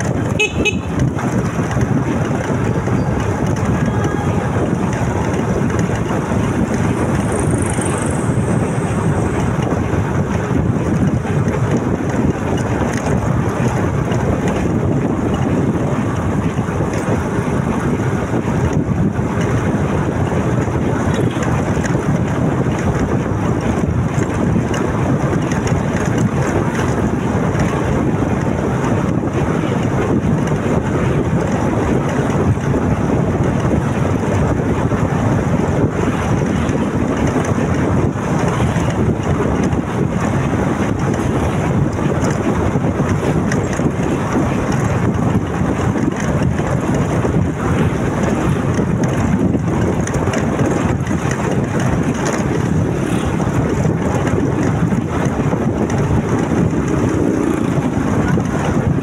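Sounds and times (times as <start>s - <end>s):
motorcycle engine and road noise: 0.0s - 59.0s
wind rushing over microphone: 0.0s - 59.0s.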